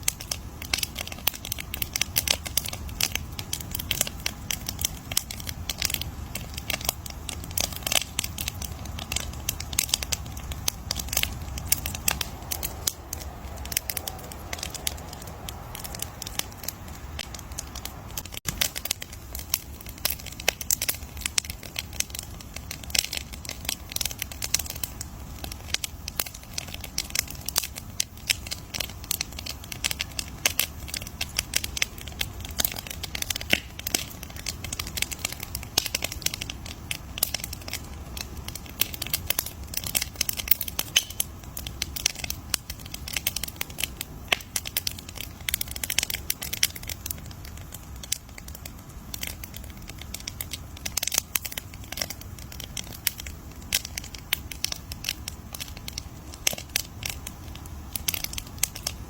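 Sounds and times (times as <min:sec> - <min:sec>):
campfire crackling: 0:00.0 - 0:59.0
low rumble of flame: 0:00.0 - 0:59.0.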